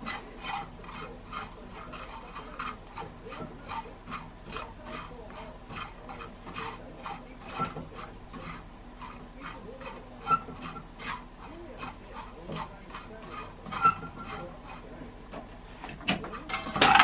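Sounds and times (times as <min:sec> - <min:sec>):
wooden utensil scraping a pan: 0:00.0 - 0:17.0.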